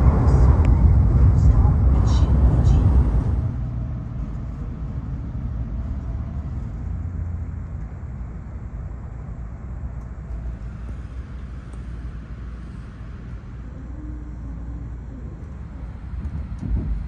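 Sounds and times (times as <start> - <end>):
train cabin running rumble: 0.0 - 17.0.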